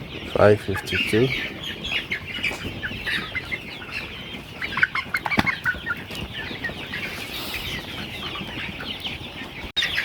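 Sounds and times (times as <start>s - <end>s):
chicks chirping and clucking: 0.0s - 10.0s.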